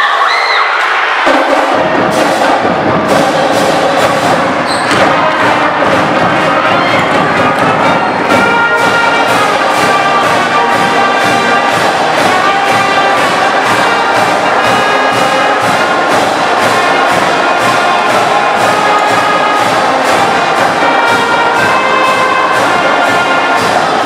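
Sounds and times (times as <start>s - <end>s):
marching band playing: 0.8s - 24.0s
steady drum beat: 1.2s - 24.0s.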